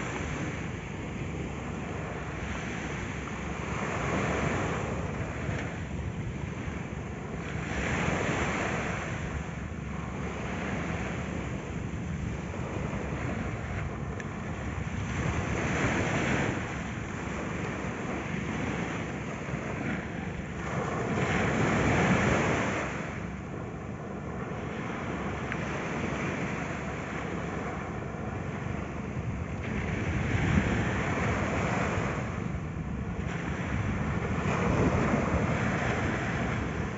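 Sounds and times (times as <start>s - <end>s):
small waves washing up a beach: 0.0s - 36.9s.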